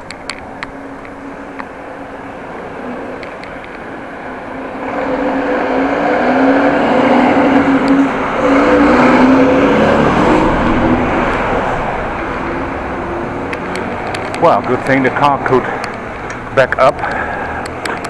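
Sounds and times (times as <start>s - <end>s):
car engine running: 3.2s - 18.0s.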